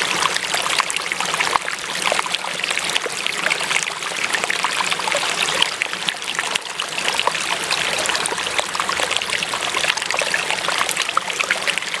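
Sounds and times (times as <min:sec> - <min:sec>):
stream babbling over stones: 0:00.0 - 0:12.0.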